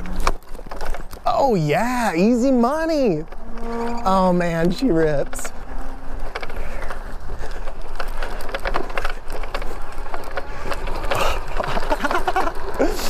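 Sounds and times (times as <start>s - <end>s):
bike clicks and rattles: 0.0s - 13.0s
tyre noise on rough ground: 0.0s - 13.0s.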